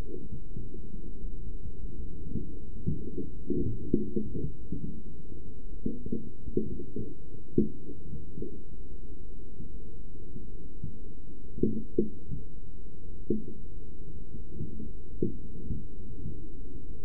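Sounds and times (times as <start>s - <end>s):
muffled low rumble: 0.0s - 17.0s.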